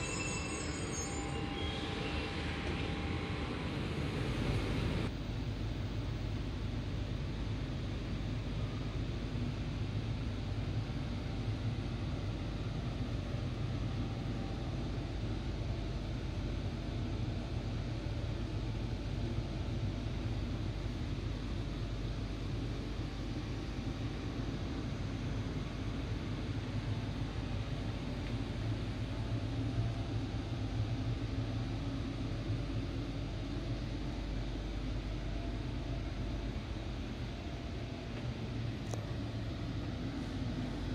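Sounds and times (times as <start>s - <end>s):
train interior rumble and hum: 0.0s - 40.9s.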